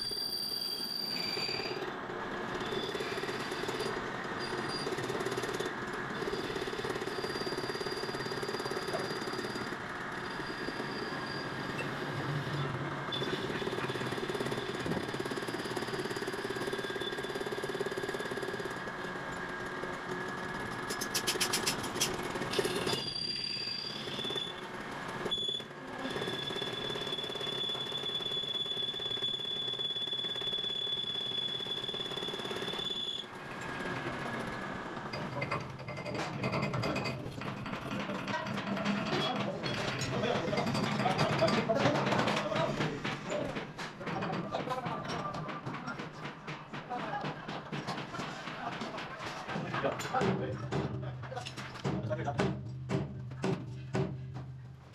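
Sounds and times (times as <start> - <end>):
workshop machinery whining and humming: 0.0 - 52.0.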